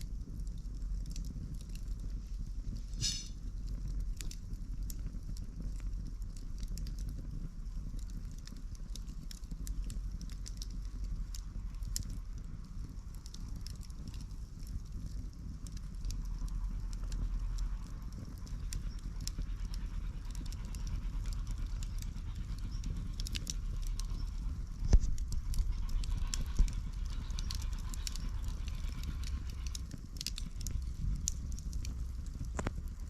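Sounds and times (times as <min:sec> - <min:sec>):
campfire wood crackling: 0:00.0 - 0:33.0
low rumble: 0:00.0 - 0:33.0.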